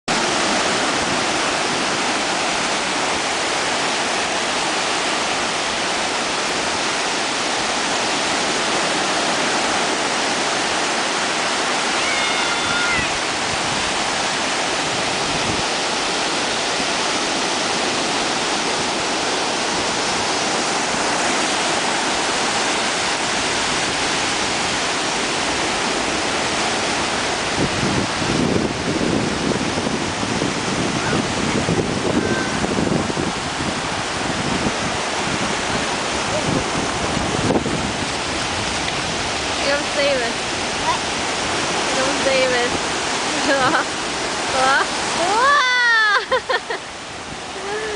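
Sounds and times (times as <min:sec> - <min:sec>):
ocean surf breaking: 0:00.1 - 0:47.9
wind buffeting microphone: 0:00.1 - 0:47.9.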